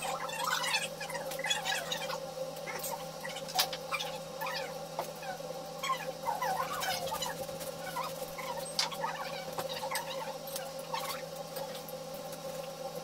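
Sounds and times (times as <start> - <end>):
faint wavering chirps: 0.0 - 11.8
steady hum: 0.0 - 13.0.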